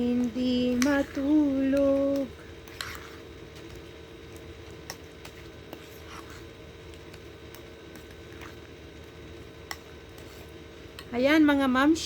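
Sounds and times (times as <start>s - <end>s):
spoon stirring and scraping bowl: 0.0s - 11.7s
faint steady hum: 0.0s - 12.0s.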